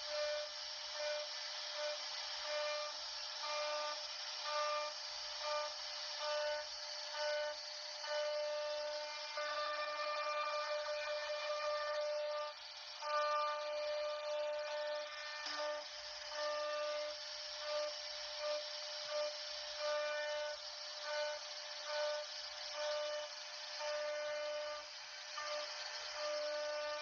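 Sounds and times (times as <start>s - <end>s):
bit cutting wood hiss: 0.0s - 27.0s
router spindle whining: 0.0s - 27.0s.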